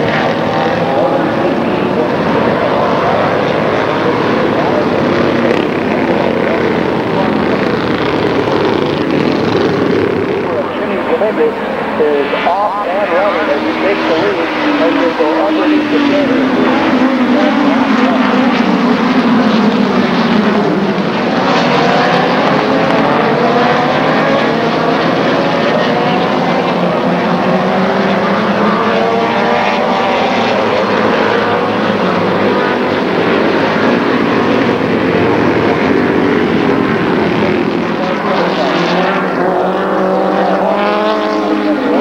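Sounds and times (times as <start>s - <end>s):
race car engines at full throttle: 0.0s - 42.0s.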